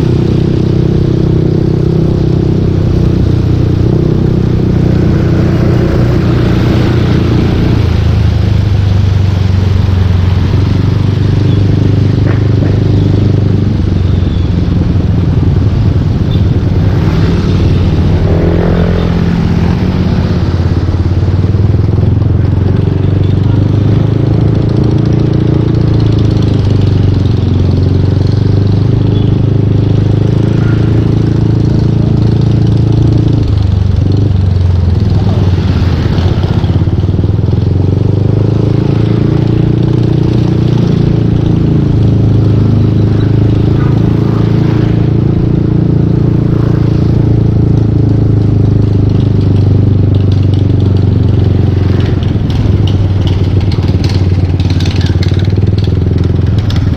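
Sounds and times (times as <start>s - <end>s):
road and wind noise: 0.0s - 56.9s
scooter engine revving: 9.9s - 56.9s.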